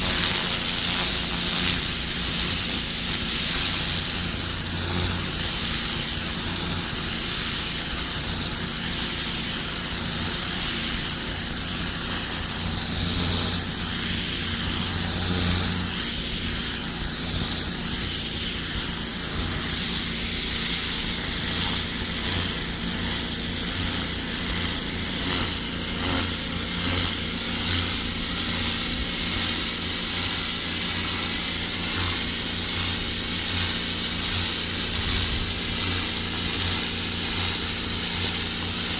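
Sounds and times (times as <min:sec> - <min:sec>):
pressure washer jet hissing: 0:00.0 - 0:38.9
pressure washer motor hum: 0:00.0 - 0:38.9.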